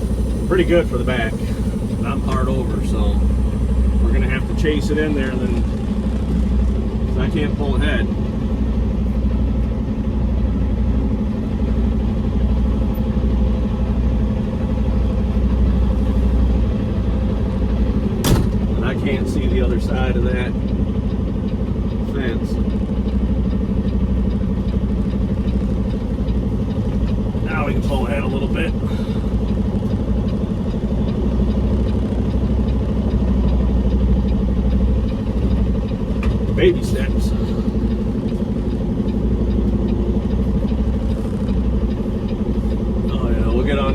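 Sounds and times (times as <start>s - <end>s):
diesel truck engine running: 0.0s - 43.9s.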